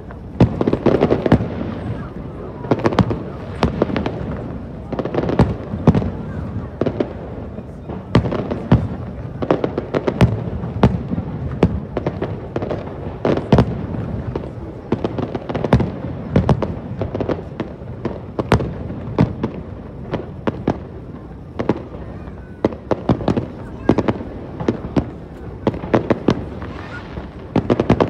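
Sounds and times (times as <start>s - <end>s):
fireworks bangs and cracks: 0.0s - 28.0s.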